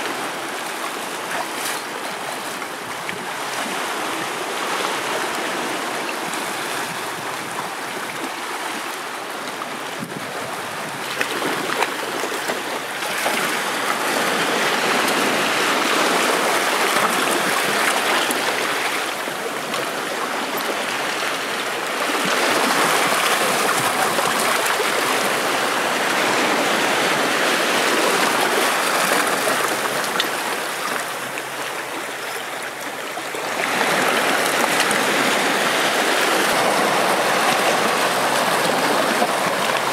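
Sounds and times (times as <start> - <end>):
seawater washing over rocks: 0.0 - 39.9.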